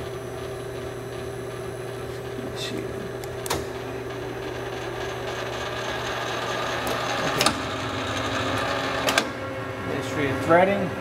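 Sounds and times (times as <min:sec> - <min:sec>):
lathe gear whir: 0:00.0 - 0:11.0.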